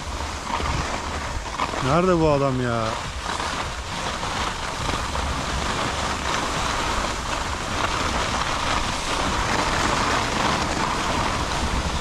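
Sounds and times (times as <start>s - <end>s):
skis sliding over snow: 0.0s - 12.0s
wind buffeting microphone: 0.0s - 12.0s.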